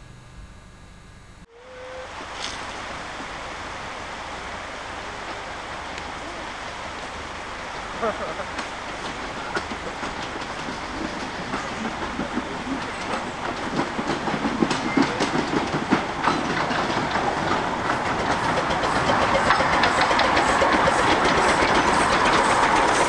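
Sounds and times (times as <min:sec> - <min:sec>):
steam locomotive approaching: 0:01.5 - 0:23.0.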